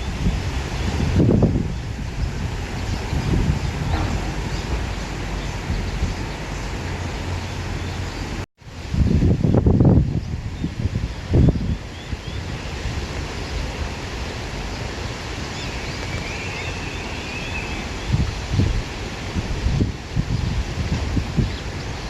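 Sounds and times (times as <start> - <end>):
wind blowing through grass: 0.0 - 22.0
wind buffeting microphone: 0.0 - 22.0.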